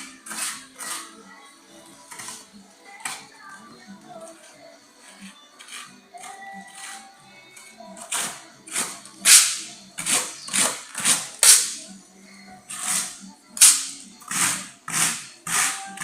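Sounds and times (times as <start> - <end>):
trowel scraping plaster on wall: 0.0 - 1.3, 2.1 - 3.2, 4.3 - 11.9, 12.7 - 16.0.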